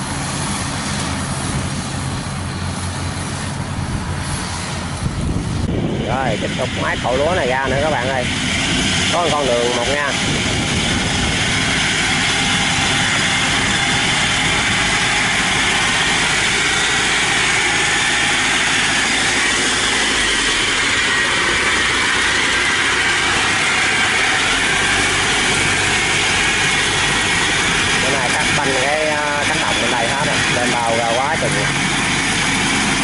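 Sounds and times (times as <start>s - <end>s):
tracked carrier engine running: 0.0s - 33.0s.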